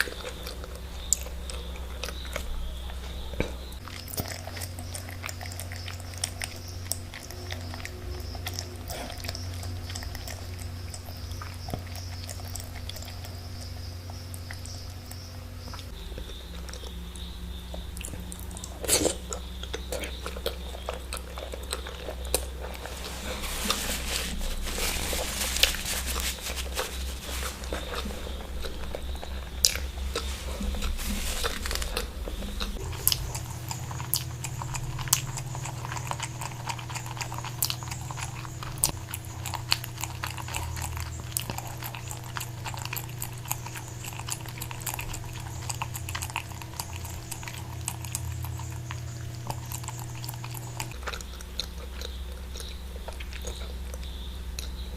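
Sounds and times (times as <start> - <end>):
chewing and biting: 0.0 - 54.9
steady low hum: 0.0 - 54.9.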